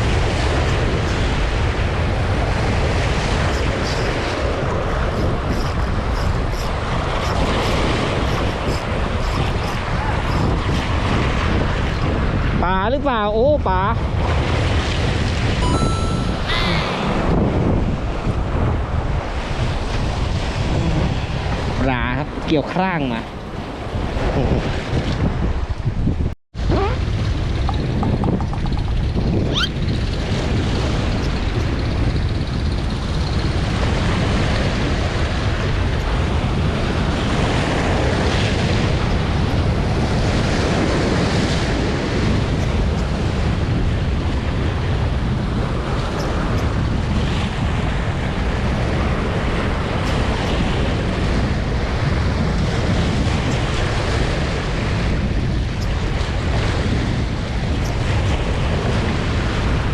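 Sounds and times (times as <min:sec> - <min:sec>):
waves washing against shore: 0:00.0 - 0:59.9
wind buffeting microphone: 0:00.0 - 0:59.9.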